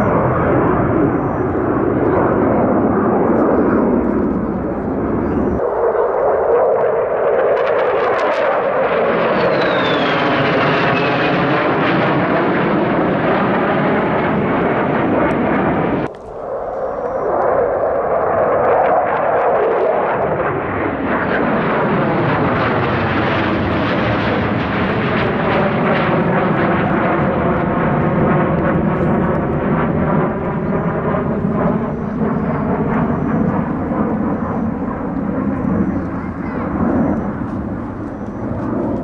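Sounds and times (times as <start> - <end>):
fighter jet roar: 0.0 - 39.0.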